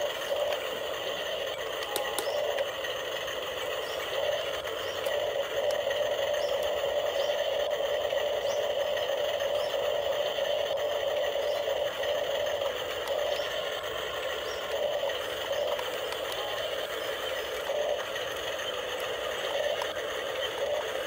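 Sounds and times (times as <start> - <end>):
toy electric motors whirring: 0.0 - 21.0.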